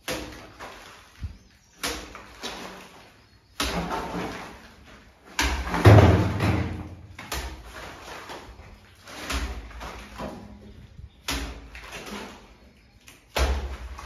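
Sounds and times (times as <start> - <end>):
trowel slapping and scraping plaster: 0.0 - 14.0.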